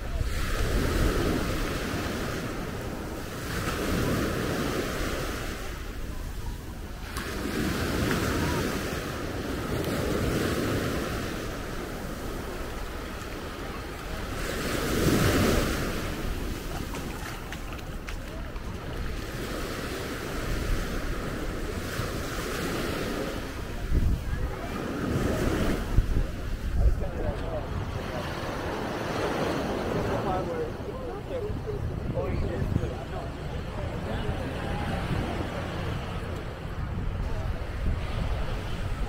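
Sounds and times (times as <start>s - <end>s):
wind rumble on microphone: 0.0s - 29.0s, 29.6s - 39.0s
surf washing up a sandy beach: 0.0s - 39.0s.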